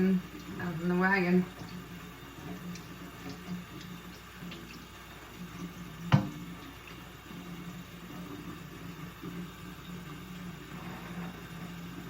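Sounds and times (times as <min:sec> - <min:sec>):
water running in a sink: 0:00.0 - 0:12.0.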